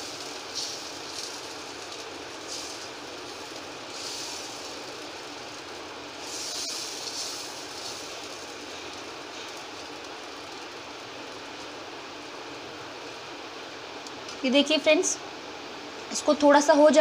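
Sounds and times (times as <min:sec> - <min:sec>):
batter sizzling on a griddle: 0:00.0 - 0:14.0.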